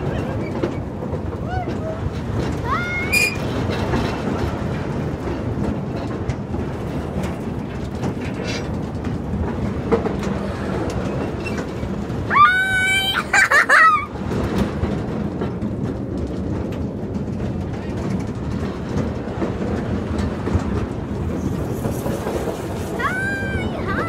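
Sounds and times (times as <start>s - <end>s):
ride car rumbling and rattling: 0.0s - 24.0s.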